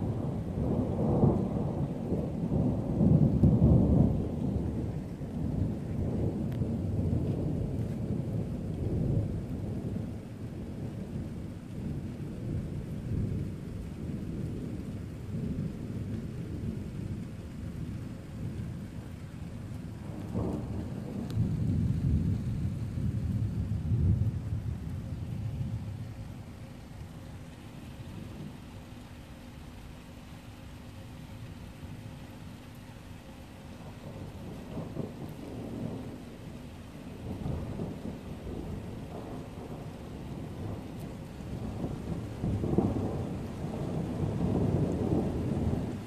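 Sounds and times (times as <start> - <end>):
steady rain: 0.0 - 46.0
thunder rumbling: 0.0 - 46.0.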